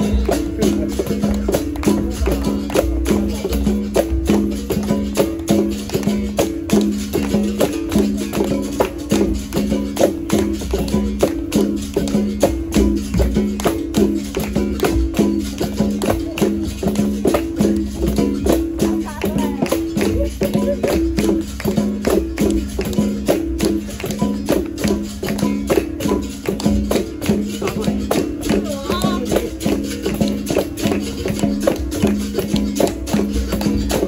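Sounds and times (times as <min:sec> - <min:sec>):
shaker rattle: 0:00.0 - 0:34.0.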